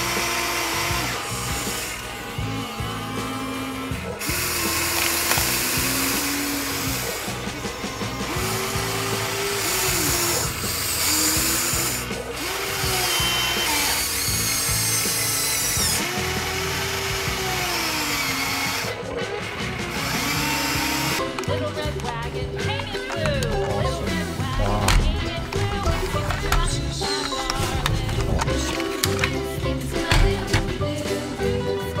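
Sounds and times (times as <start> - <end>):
toy excavator motors whirring: 0.0 - 31.7.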